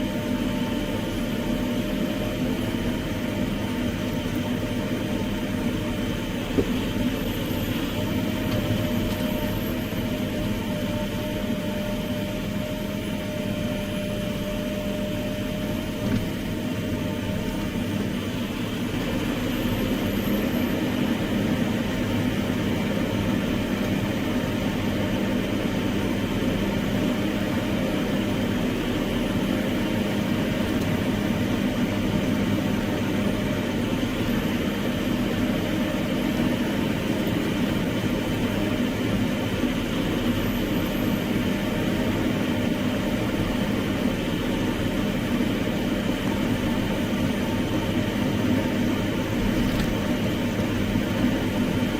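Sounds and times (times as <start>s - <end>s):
diesel engine running steadily: 0.0s - 51.9s.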